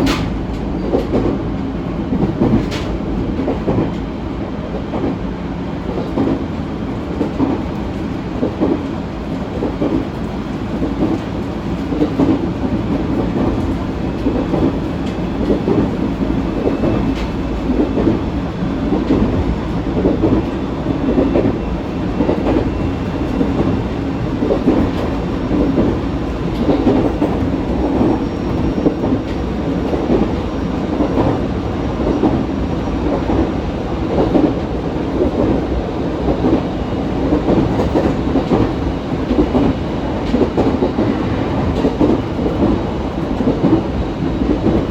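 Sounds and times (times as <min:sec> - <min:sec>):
clickety-clack over rail joints: 0:00.0 - 0:44.9
train wheels rumbling on rail: 0:00.0 - 0:44.9.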